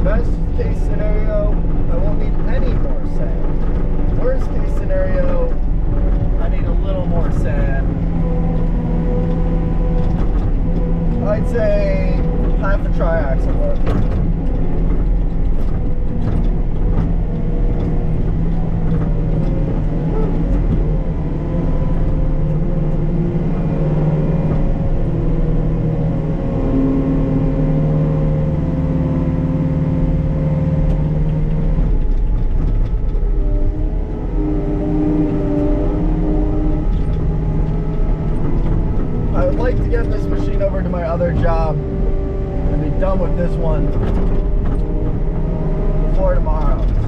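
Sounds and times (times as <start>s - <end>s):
diesel engine running under load: 0.0s - 47.0s.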